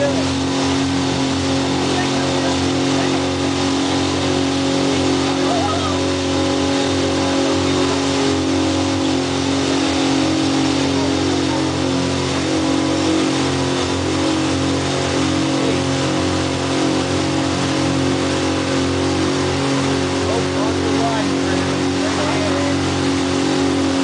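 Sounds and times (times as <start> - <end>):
boat engine running: 0.0 - 24.0
water rushing: 0.0 - 24.0.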